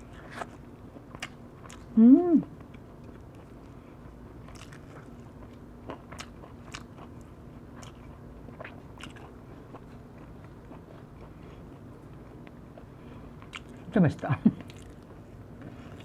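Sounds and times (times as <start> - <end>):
person chewing: 0.0 - 13.9, 14.6 - 16.0.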